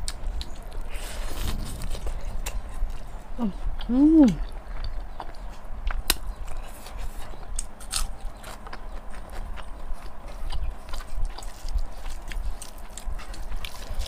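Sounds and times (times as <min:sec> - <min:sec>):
people chewing and lip-smacking: 0:00.0 - 0:14.0.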